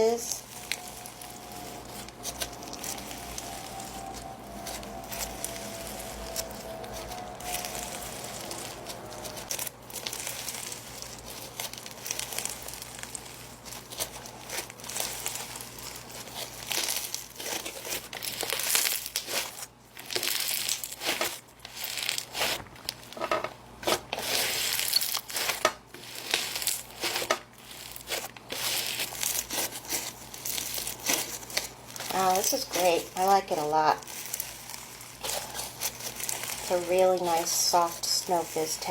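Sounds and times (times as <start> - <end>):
slime fizzy crinkling: 0.0 - 23.2, 23.8 - 38.9.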